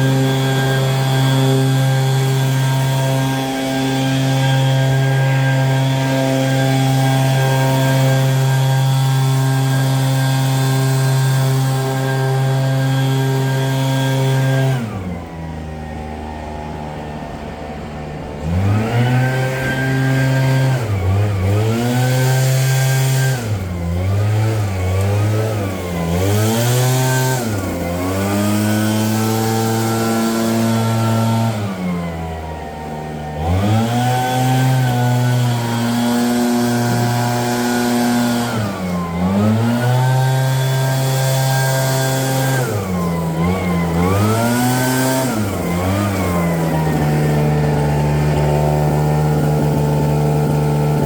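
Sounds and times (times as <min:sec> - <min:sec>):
leaf blower engine revving: 0:00.0 - 0:51.0.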